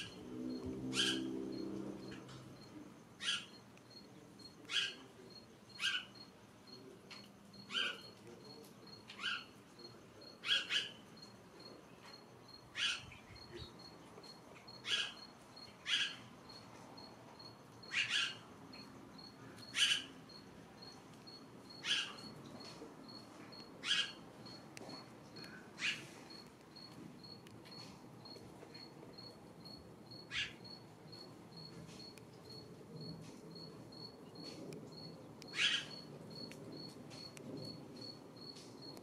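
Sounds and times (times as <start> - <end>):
bird chirping: 0.0 - 36.9.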